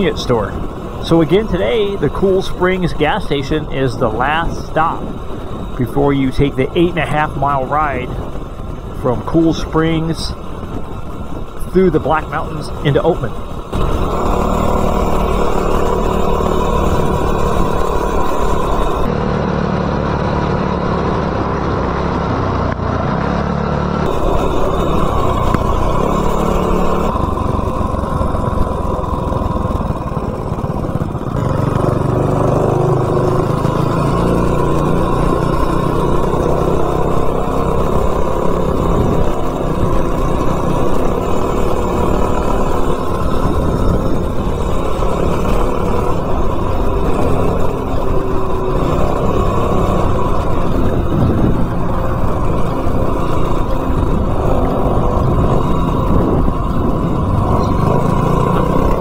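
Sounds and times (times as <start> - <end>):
mini bike engine running: 0.0 - 59.0.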